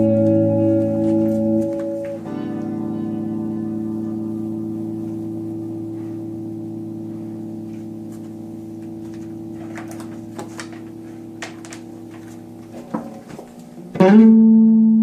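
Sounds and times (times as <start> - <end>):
electric guitar chord ringing: 0.0 - 15.0.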